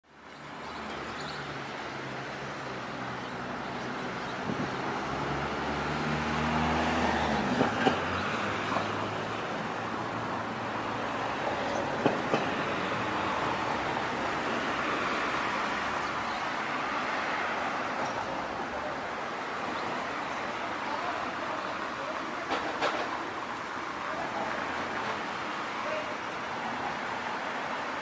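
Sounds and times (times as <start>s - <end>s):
tyre and road noise: 0.1s - 28.0s.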